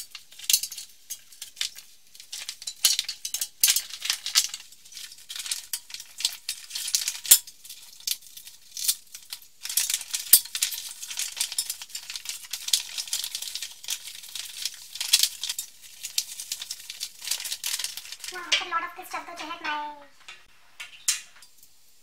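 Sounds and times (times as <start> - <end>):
fabric rustling and crinkling: 0.1 - 20.8.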